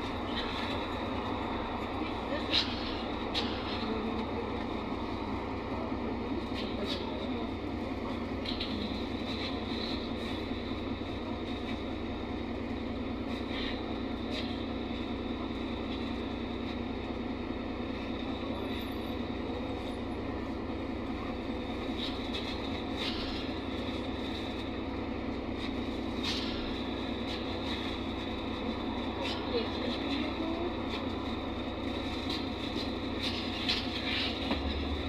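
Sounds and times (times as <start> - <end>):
bus diesel engine running: 0.0 - 35.0
road and tyre noise: 0.0 - 35.0.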